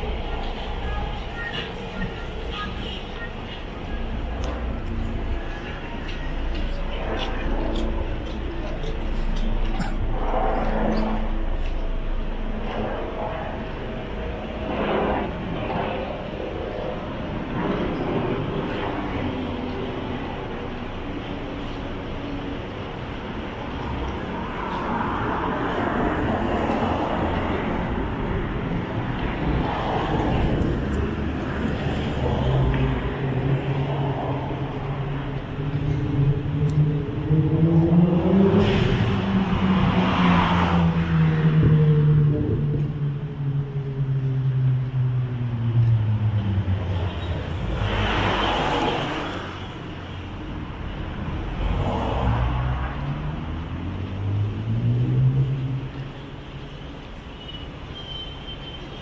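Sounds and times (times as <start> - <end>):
passing vehicles: 0.0 - 59.0.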